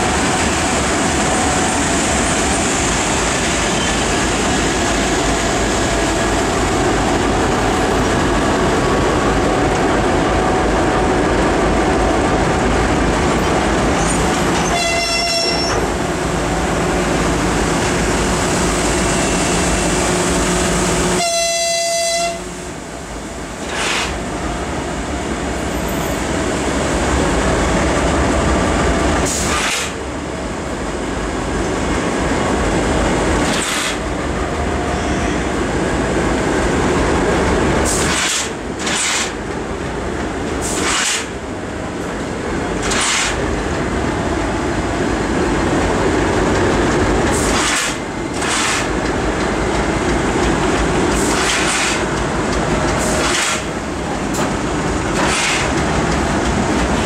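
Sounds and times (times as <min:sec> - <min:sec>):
diesel locomotive engine rumble: 0:00.0 - 0:57.0.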